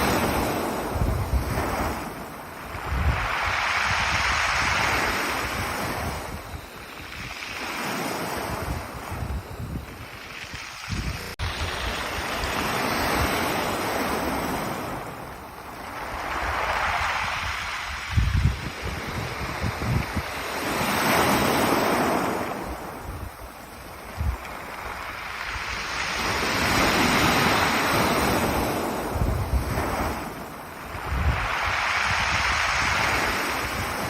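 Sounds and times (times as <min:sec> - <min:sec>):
waves on a pebble beach: 0:00.0 - 0:34.0
wind buffeting microphone: 0:00.0 - 0:34.0.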